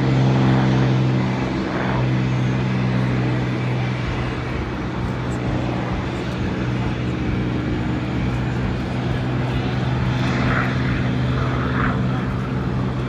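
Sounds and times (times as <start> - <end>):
aircraft engine humming: 0.0 - 13.0.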